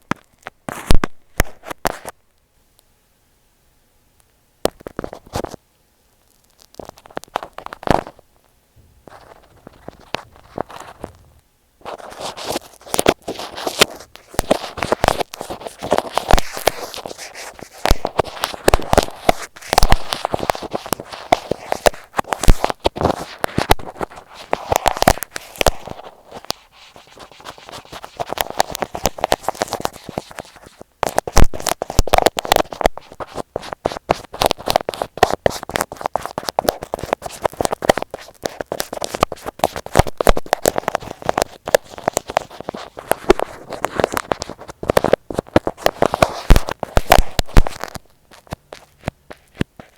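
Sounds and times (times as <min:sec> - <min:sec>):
tape scratching on microphone: 0:00.0 - 0:02.2, 0:04.7 - 0:05.6, 0:06.2 - 0:49.9.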